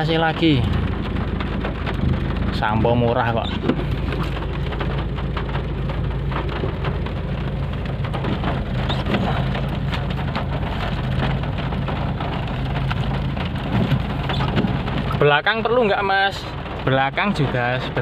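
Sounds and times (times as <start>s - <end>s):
heavy rain on car roof: 0.0s - 18.0s.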